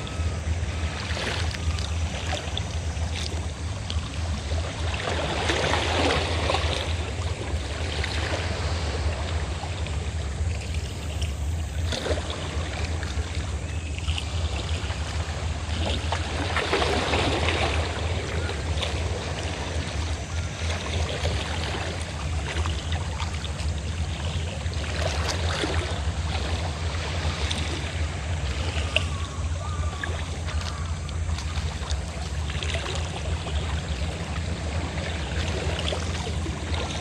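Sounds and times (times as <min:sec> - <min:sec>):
boat engine droning: 0:00.0 - 0:37.0
waves washing ashore: 0:00.0 - 0:37.0.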